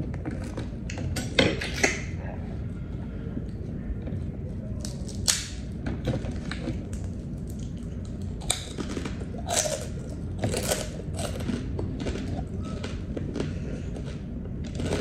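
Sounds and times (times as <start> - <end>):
crunching pork cracklings: 2.9 - 15.0.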